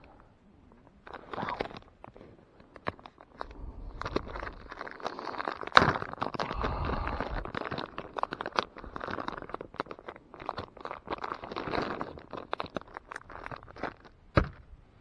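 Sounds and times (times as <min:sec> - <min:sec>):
plastic bag crinkling: 0:00.0 - 0:14.3.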